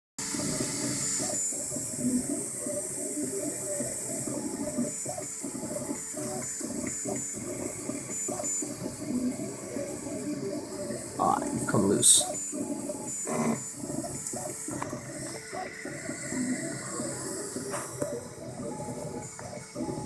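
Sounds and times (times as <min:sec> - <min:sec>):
cooling fans hissing: 0:00.3 - 0:20.0
stepper motors whirring: 0:00.3 - 0:20.0.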